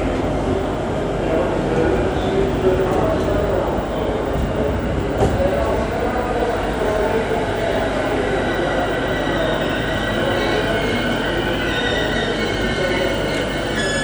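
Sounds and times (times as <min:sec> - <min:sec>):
electric train rumbling on rails: 0:00.0 - 0:14.0.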